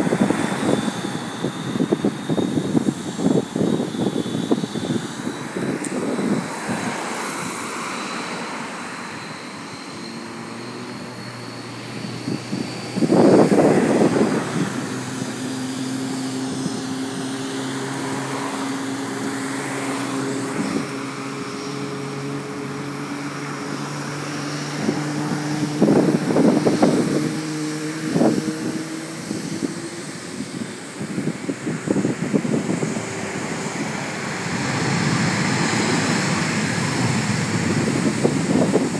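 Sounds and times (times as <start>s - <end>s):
jet engines humming: 0.0s - 38.9s
rushing bursts: 0.0s - 38.9s.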